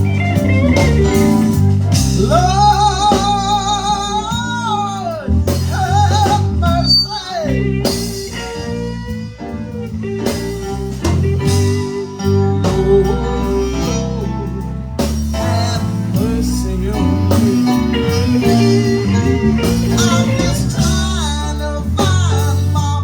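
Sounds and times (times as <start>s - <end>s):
blues guitar lead: 0.0s - 23.0s
drums: 0.0s - 23.0s
walking bass: 0.0s - 23.0s.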